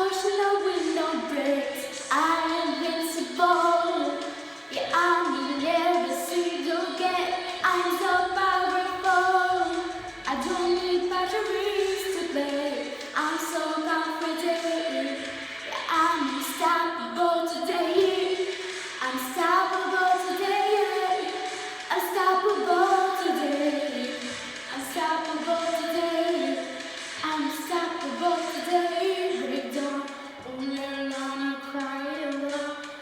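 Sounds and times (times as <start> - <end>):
backing music: 0.0 - 33.0
girl singing: 0.0 - 33.0.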